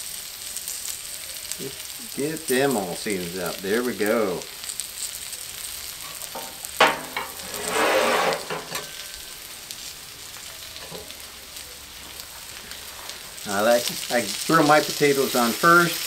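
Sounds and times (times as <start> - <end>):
potatoes sizzling on a griddle: 0.0 - 16.0.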